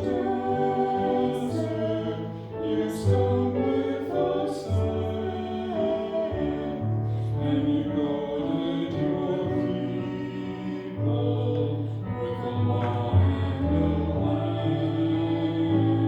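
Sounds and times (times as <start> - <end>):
voices singing a hymn: 0.0 - 16.0.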